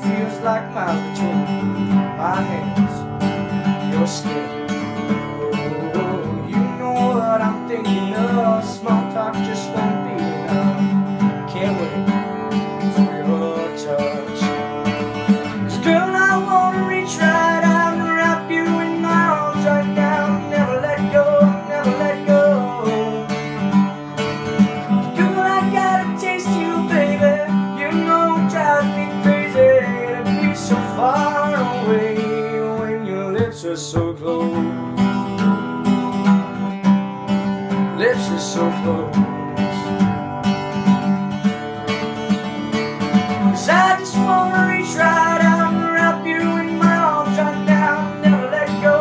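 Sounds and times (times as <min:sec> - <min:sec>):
man singing: 0:00.0 - 0:36.8, 0:37.4 - 0:40.3, 0:42.0 - 0:49.0
acoustic guitar strumming: 0:00.0 - 0:49.0.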